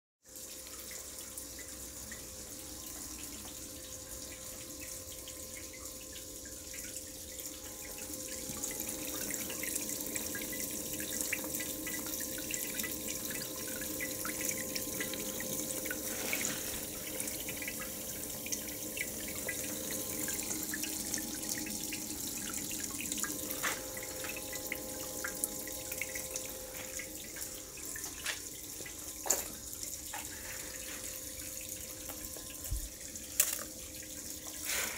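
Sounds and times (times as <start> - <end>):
small water drips: 0.2 - 34.9
steady hum: 2.6 - 34.9.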